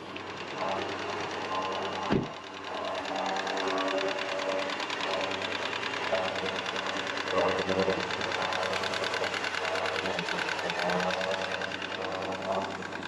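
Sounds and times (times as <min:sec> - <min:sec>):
electric winch whirring: 0:00.0 - 0:13.0.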